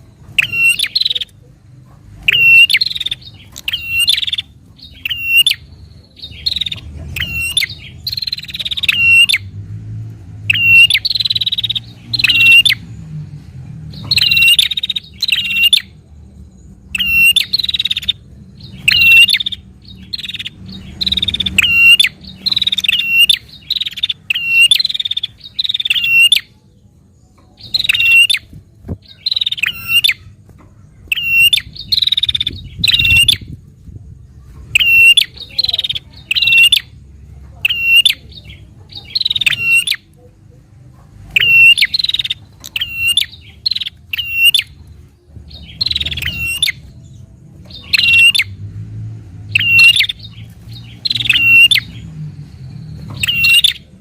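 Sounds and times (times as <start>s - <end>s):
bird calling in sharp chirps: 0.0s - 1.5s, 2.2s - 9.5s, 10.4s - 12.9s, 13.9s - 16.0s, 16.9s - 26.6s, 27.5s - 30.4s, 31.0s - 33.6s, 34.6s - 37.0s, 37.6s - 40.1s, 41.3s - 48.6s, 49.5s - 54.0s.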